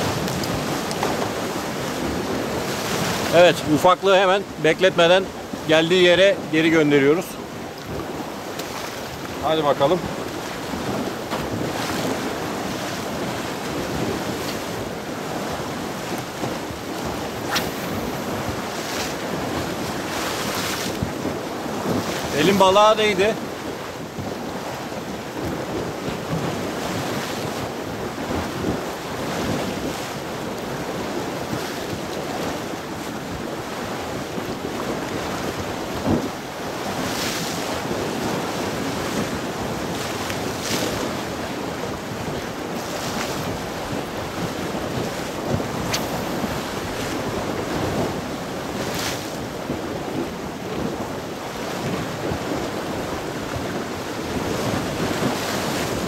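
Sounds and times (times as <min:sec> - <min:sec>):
sea waves washing ashore: 0:00.0 - 0:56.0
wind buffeting microphone: 0:00.0 - 0:56.0.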